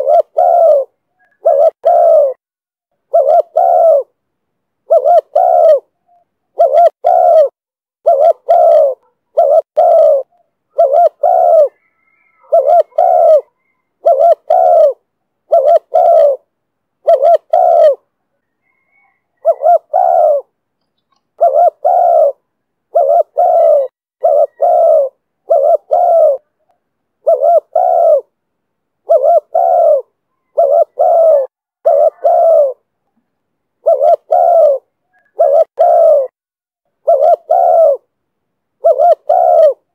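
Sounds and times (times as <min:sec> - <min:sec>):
dove cooing: 0:00.0 - 0:02.4, 0:03.0 - 0:04.2, 0:04.8 - 0:28.4, 0:29.0 - 0:32.9, 0:33.8 - 0:36.4, 0:37.0 - 0:38.1, 0:38.8 - 0:39.9.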